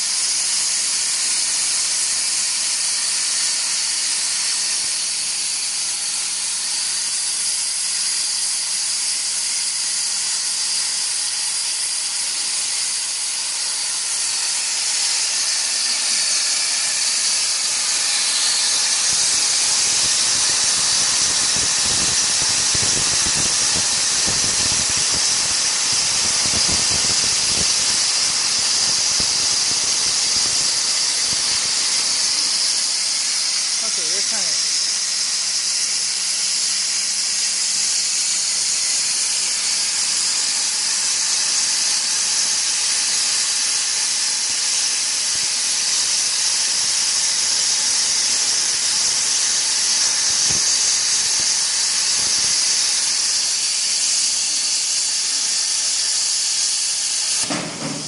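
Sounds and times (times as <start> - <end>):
plasma torch hissing: 0.0 - 58.0.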